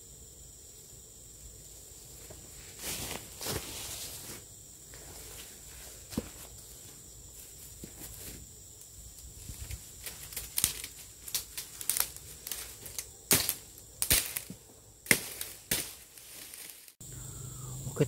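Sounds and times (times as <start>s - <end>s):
high-pitched insect whine: 0.0s - 18.0s.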